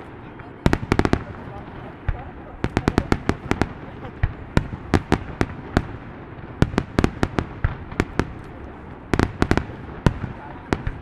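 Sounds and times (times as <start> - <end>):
distant fireworks bangs and crackles: 0.0 - 11.0.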